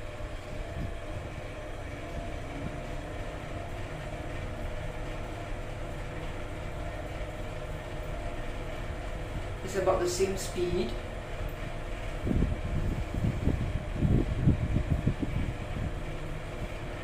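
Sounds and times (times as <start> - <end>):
faint steady hum: 0.0 - 17.0
lift travelling rumble: 0.0 - 17.0.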